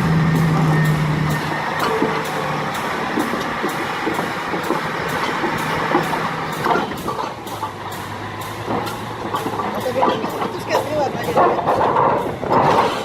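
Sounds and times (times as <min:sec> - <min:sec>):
heavy machinery running: 0:00.0 - 0:13.0
knocks and rattles: 0:00.0 - 0:13.0.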